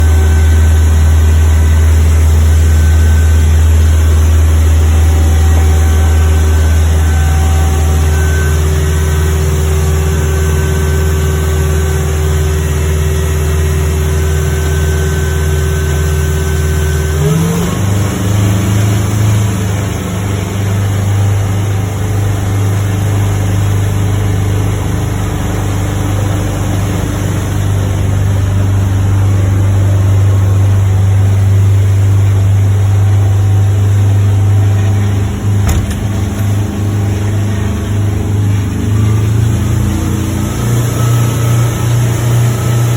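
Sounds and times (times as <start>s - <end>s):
boat diesel engine running: 0.0s - 42.9s.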